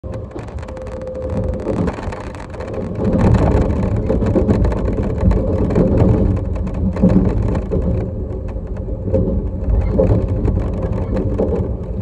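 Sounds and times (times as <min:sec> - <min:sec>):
train rumbling from inside carriage: 0:00.0 - 0:12.0.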